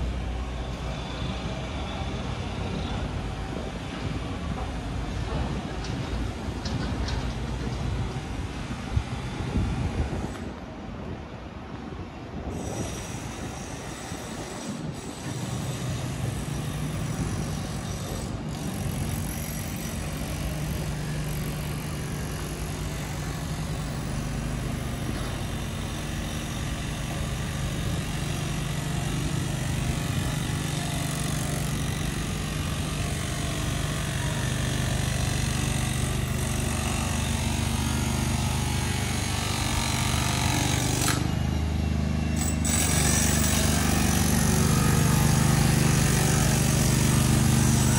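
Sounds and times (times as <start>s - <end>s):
road noise: 0.0s - 47.9s.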